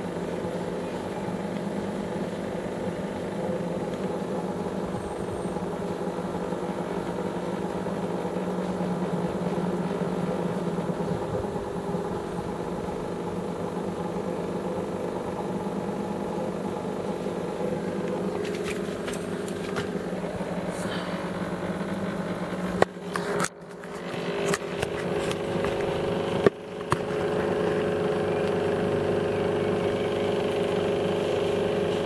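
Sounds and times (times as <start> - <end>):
vehicle engine drone: 0.0 - 32.0.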